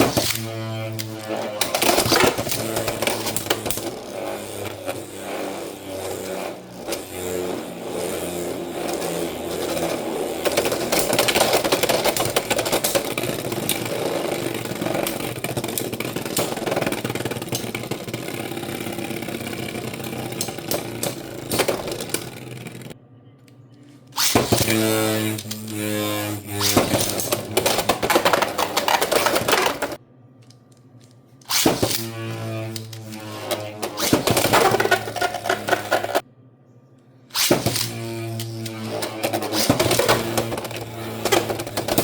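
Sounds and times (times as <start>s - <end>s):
spinning tops whirring: 0.0s - 23.0s, 24.2s - 30.0s, 31.4s - 36.2s, 37.3s - 42.0s
tops clicking and clashing: 0.0s - 23.0s, 24.2s - 30.0s, 31.4s - 36.2s, 37.4s - 42.0s.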